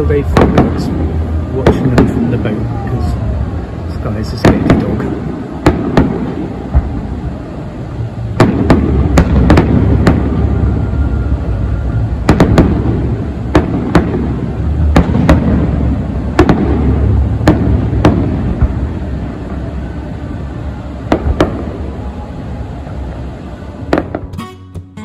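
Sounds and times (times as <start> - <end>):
low rumble: 0.0 - 24.0
fireworks bangs: 0.0 - 24.5.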